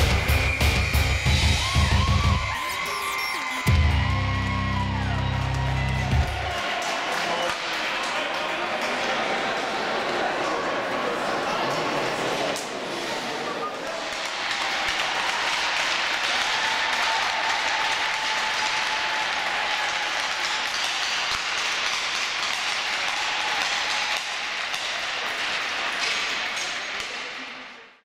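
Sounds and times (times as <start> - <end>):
crowd applauding: 0.0 - 11.2, 13.9 - 25.9.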